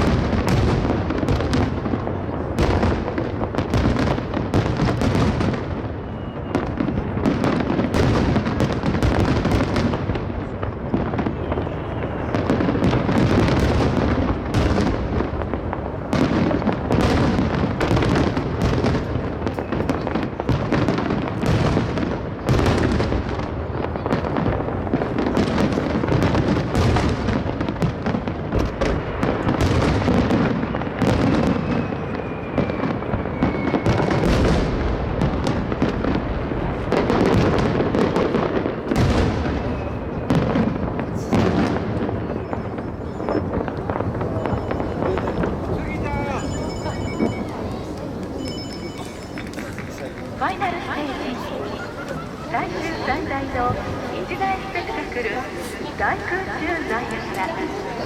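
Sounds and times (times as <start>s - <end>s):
fireworks booming and crackling: 0.0s - 58.0s.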